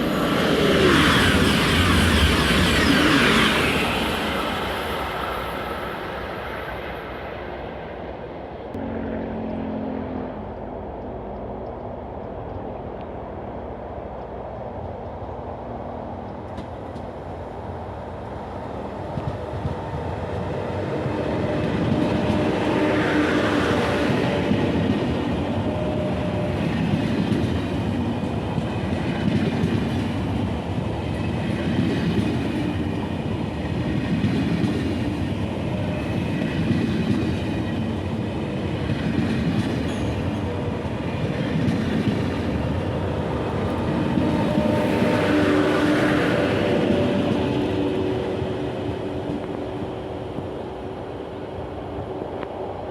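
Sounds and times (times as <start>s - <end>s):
train passing at low speed: 0.0s - 52.9s
wheels rumbling on rails: 0.0s - 52.9s.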